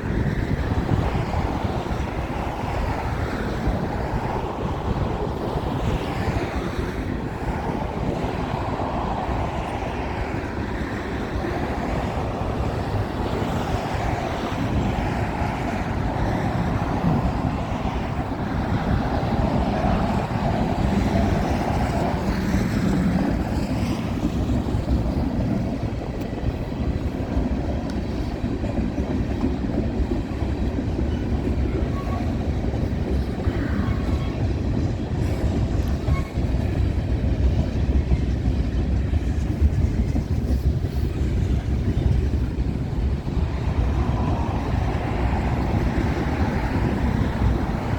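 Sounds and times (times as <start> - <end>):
freight train wheels on rails: 0.0 - 47.9.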